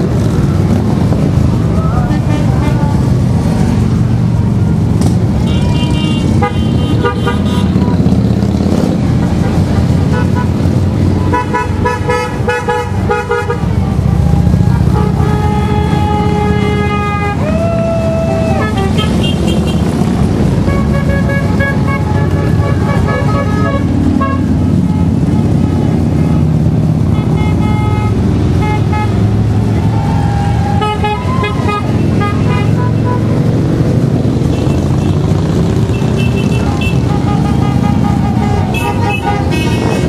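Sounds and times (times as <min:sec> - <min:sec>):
motorcycles passing: 0:00.0 - 0:40.0
horns honking: 0:05.4 - 0:14.1, 0:14.8 - 0:33.6, 0:34.3 - 0:40.0.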